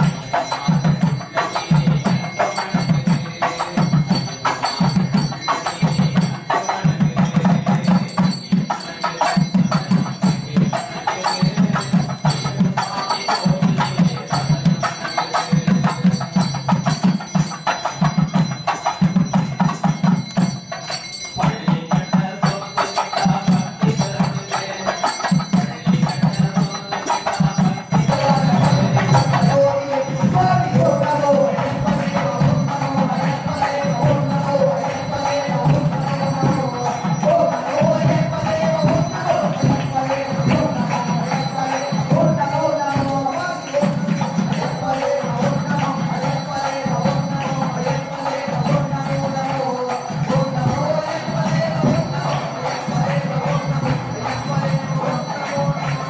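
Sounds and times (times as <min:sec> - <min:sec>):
bells and small percussion clatter: 0:00.0 - 0:56.0
pulsing low drumbeat: 0:00.0 - 0:56.0.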